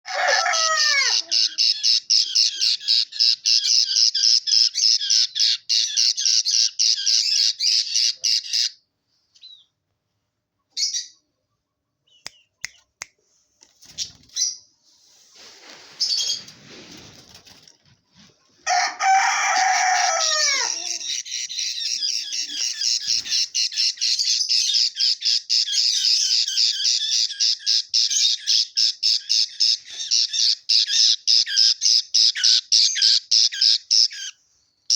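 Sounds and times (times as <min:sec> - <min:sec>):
bird chicks chirping: 0:00.1 - 0:09.8, 0:13.8 - 0:17.7, 0:18.5 - 0:34.9.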